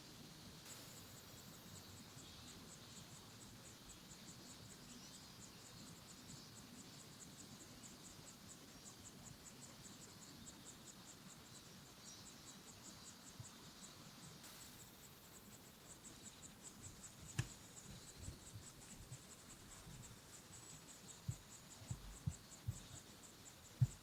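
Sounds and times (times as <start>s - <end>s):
insect chirping: 0.0s - 24.0s
soft outdoor hiss: 0.0s - 24.0s.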